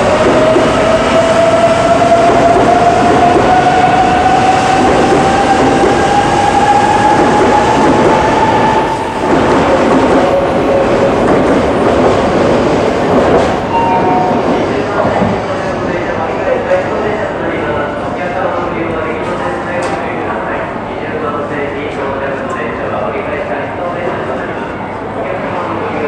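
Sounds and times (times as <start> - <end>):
train rolling rumble with wheel clatter: 0.0 - 22.7.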